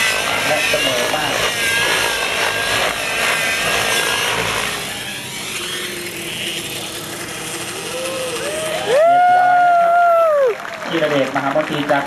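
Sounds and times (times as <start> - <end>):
model helicopter engine whine: 0.0 - 12.0.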